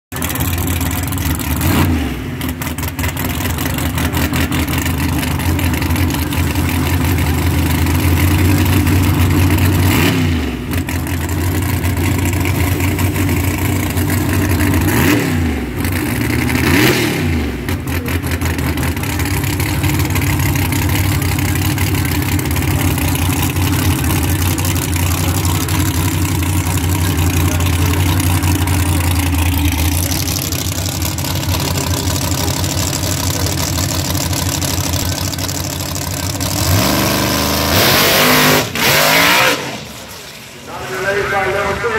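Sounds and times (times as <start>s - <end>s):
car engine running: 0.1s - 41.9s.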